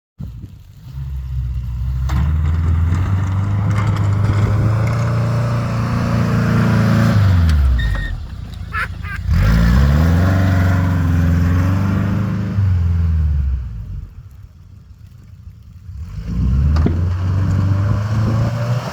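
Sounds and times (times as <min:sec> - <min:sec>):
engine revving: 0:00.8 - 0:08.0, 0:08.7 - 0:13.9, 0:15.9 - 0:18.9.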